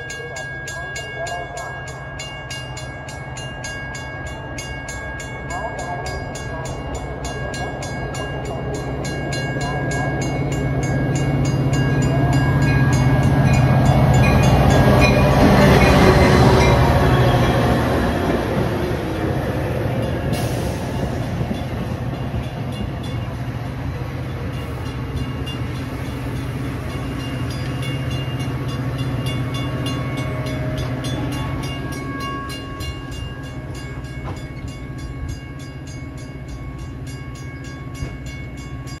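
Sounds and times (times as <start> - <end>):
train rolling past: 0.0 - 39.0.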